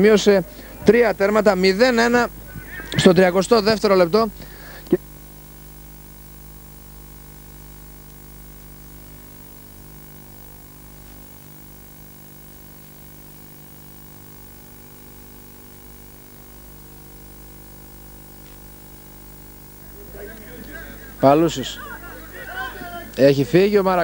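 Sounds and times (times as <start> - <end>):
electrical hum with hiss: 0.0 - 24.0.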